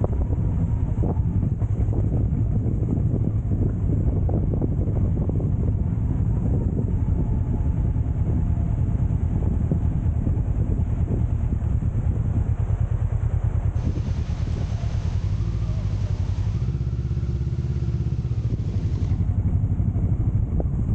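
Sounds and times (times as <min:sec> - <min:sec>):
motorcycle engine running: 0:00.0 - 0:20.9
wind buffeting microphone: 0:00.0 - 0:20.9.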